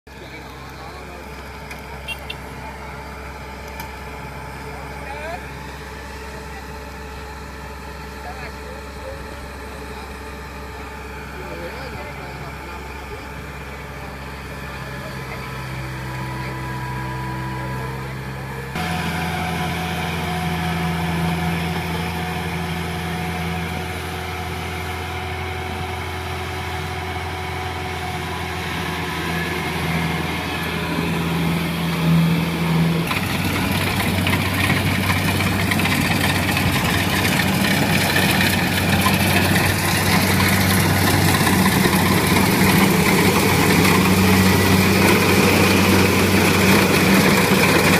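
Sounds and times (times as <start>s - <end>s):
combine harvester engine running: 0.1s - 47.9s.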